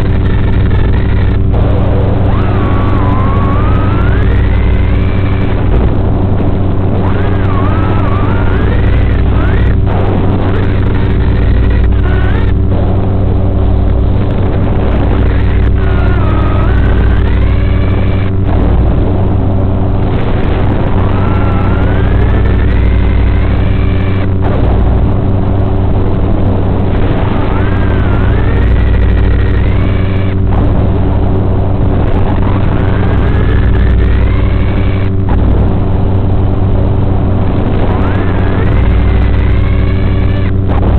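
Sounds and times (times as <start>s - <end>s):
drone motors whining: 0.0s - 40.9s
steady buzzing hum: 0.0s - 40.9s.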